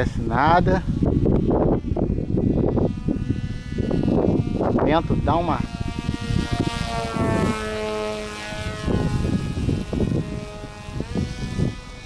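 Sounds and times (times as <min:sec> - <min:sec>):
electric motor and propeller whining: 0:00.0 - 0:12.0
wind buffeting microphone: 0:00.0 - 0:12.0.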